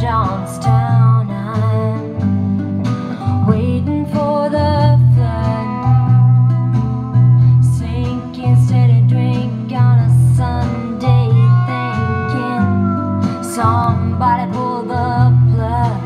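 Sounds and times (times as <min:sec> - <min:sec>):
song with singing over bass: 0:00.0 - 0:16.0.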